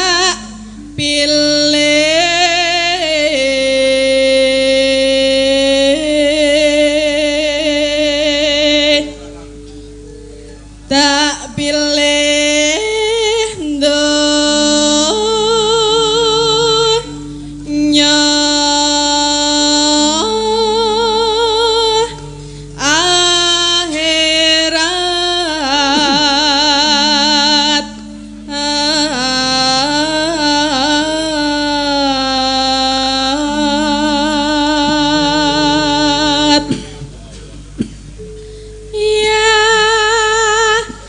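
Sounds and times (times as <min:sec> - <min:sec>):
woman singing into a microphone: 0:00.0 - 0:09.5, 0:10.9 - 0:37.2, 0:38.9 - 0:41.0
sustained instrumental notes: 0:00.0 - 0:41.0.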